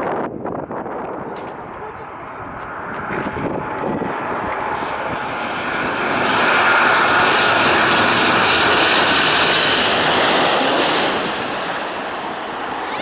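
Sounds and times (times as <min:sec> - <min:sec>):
airliner passing overhead: 0:00.1 - 0:13.0.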